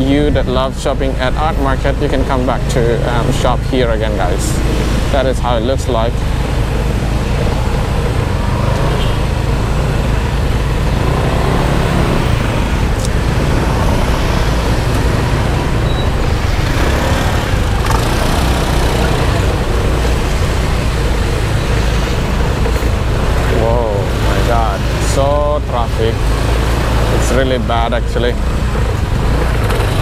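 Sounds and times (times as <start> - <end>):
car and scooter engines: 0.0 - 30.0
road noise: 0.0 - 30.0.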